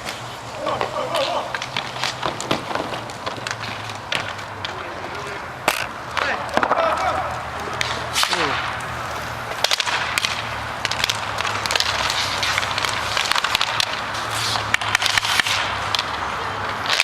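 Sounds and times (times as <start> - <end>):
hockey sticks clacking: 0.0 - 17.0
skates scraping ice: 0.0 - 17.0.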